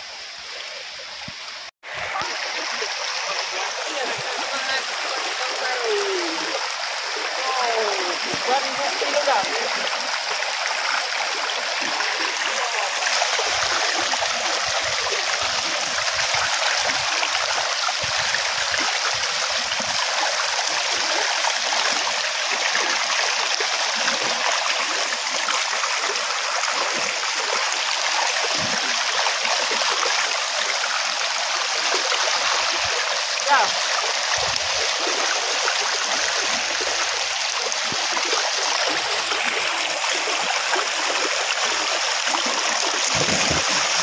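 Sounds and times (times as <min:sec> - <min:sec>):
river rushing: 0:01.8 - 0:44.0.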